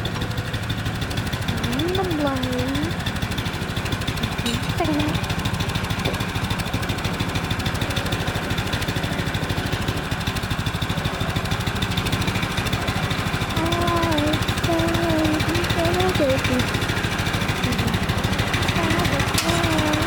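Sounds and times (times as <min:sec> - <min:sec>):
sawmill engine idling: 0:00.0 - 0:20.0.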